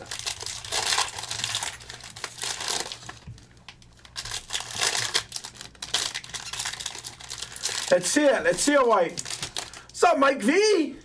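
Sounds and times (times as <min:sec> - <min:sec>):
plastic wrappers crinkling: 0:00.0 - 0:10.0.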